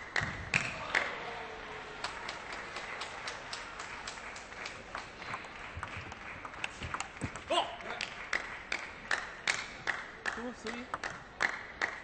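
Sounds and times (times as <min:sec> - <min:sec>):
people clapping: 0:00.0 - 0:12.0.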